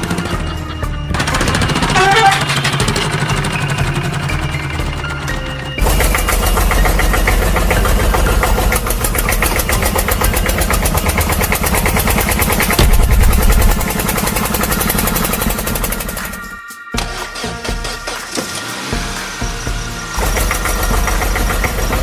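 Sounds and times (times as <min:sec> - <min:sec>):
engine chugging with low rumble: 0:00.0 - 0:22.0.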